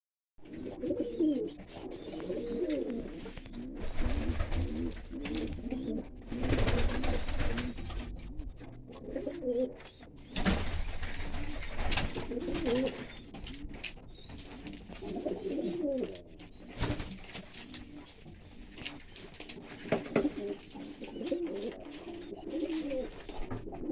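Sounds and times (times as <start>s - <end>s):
pigeons cooing: 0.4s - 23.9s.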